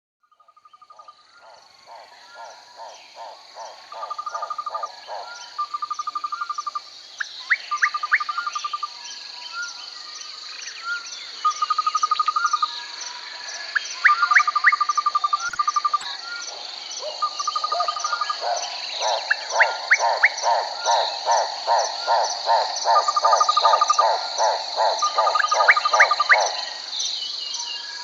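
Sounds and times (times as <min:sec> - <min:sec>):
frogs croaking: 0:00.2 - 0:28.0
pulsed insect trills: 0:00.3 - 0:28.0
high insect drone: 0:00.4 - 0:28.0.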